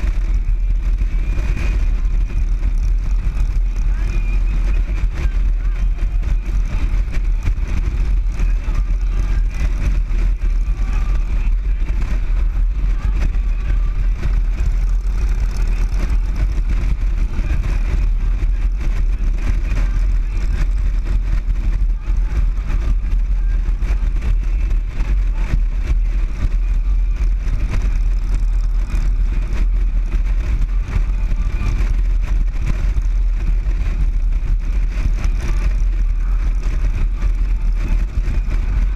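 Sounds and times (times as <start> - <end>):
motorcycle engine drone: 0.0 - 38.9
wind rumble on microphone: 0.0 - 38.9.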